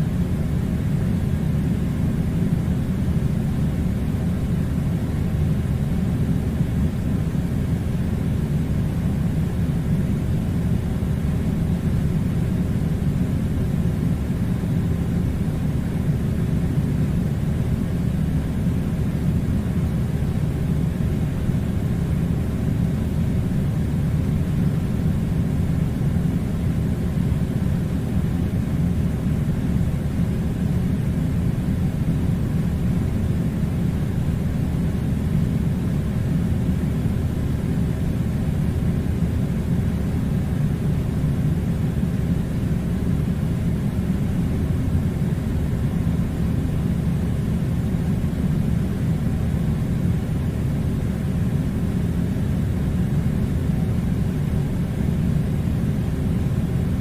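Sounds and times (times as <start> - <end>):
air conditioner droning: 0.0 - 57.0.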